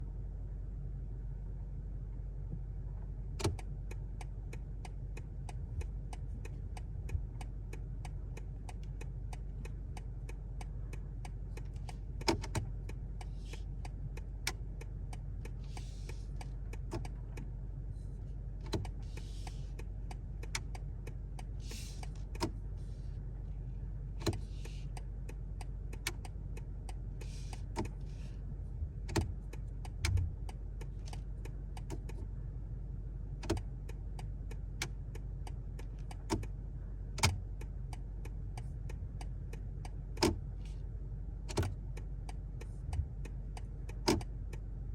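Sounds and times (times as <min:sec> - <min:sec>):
low steady hum: 0:00.0 - 0:44.9
steering column click: 0:03.4 - 0:17.6, 0:18.6 - 0:23.1, 0:24.2 - 0:32.3, 0:33.4 - 0:40.8, 0:41.4 - 0:44.7
turn signal ticking: 0:03.4 - 0:44.9.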